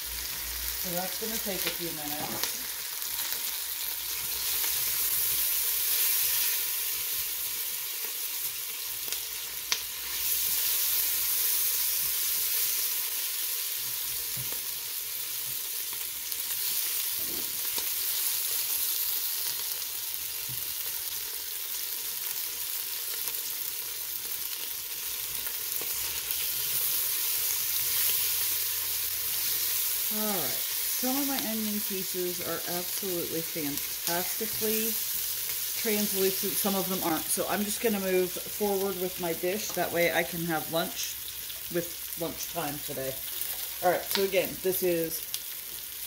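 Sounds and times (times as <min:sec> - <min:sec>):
onions sizzling in a pot: 0:00.0 - 0:46.0.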